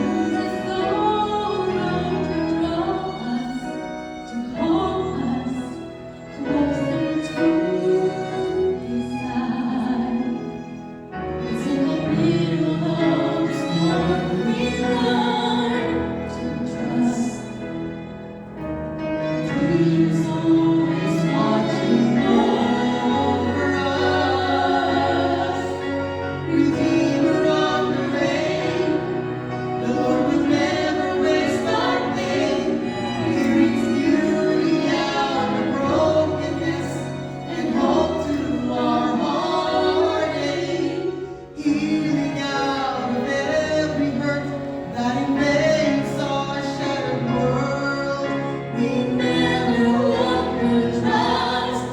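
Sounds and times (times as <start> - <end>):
choir singing gospel song: 0.0 - 18.4, 19.0 - 51.9.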